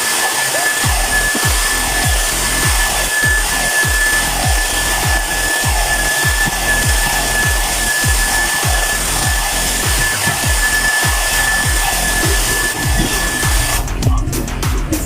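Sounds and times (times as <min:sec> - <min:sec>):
hair dryer blowing: 0:00.0 - 0:14.0.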